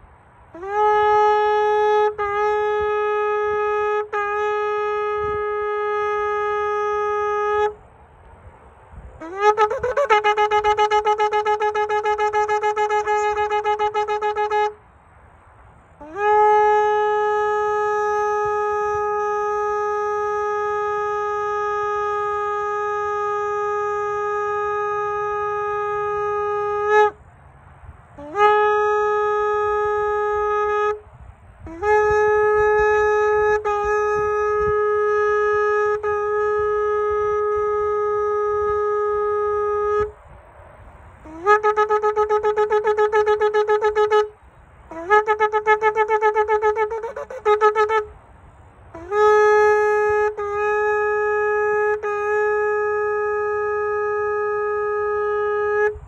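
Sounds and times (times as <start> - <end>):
horn blasts: 0.0 - 8.1, 9.0 - 15.1, 15.7 - 56.0.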